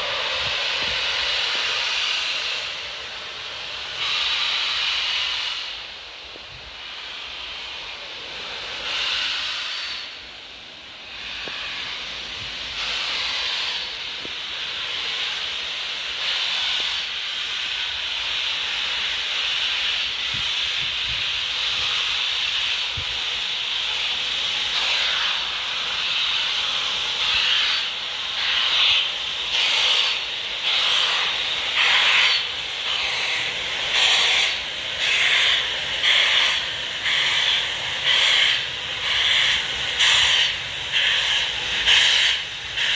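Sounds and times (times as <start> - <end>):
steam hissing: 0.0 - 42.9
steam locomotive exhaust chuffs: 0.0 - 42.9.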